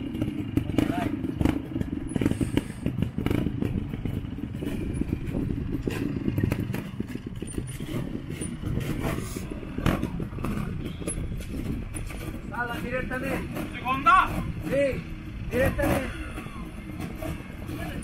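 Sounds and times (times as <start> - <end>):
motorcycle engine throttle blips: 0.0 - 18.0
sharp knocks and clatter: 0.1 - 18.0.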